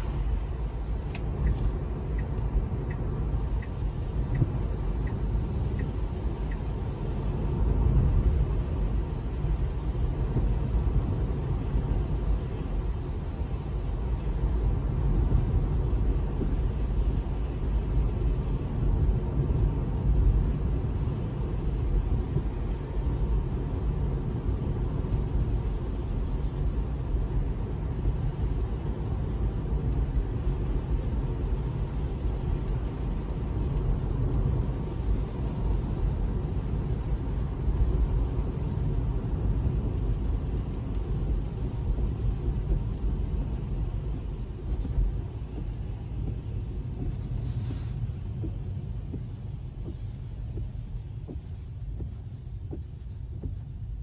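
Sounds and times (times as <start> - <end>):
tyre and road noise in car cabin: 0.0 - 54.0.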